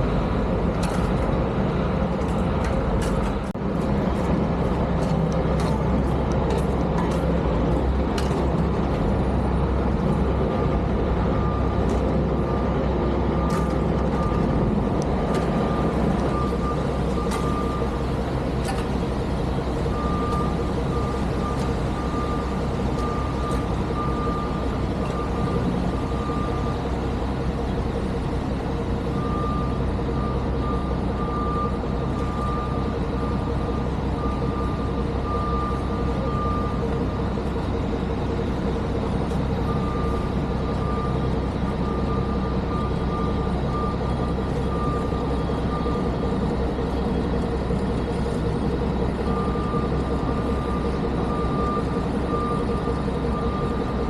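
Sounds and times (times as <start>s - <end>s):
constant whine: 0.0s - 54.0s
heavy vehicle engine drone: 0.0s - 54.0s
reversing alarm beeping: 9.1s - 54.0s.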